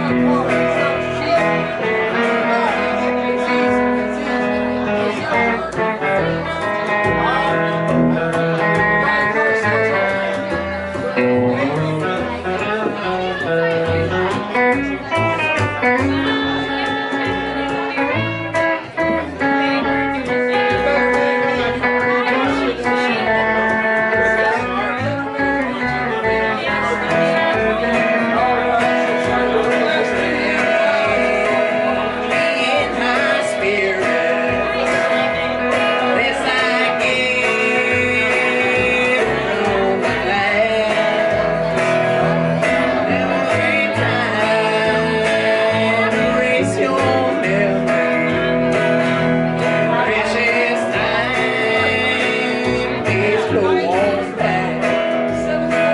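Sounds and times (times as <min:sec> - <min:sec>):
acoustic guitar: 0:00.0 - 0:55.9
electric guitar: 0:00.0 - 0:55.9
plucked upright bass: 0:00.0 - 0:55.9.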